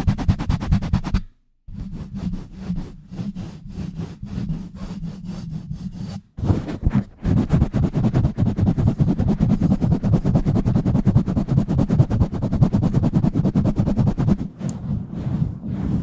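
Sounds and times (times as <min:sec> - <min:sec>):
hands rubbing on microphone: 0:01.8 - 0:16.0.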